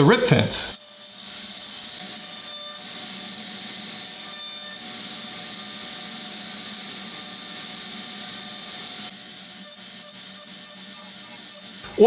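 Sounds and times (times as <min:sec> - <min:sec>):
table saw cutting wood: 0:00.0 - 0:12.0.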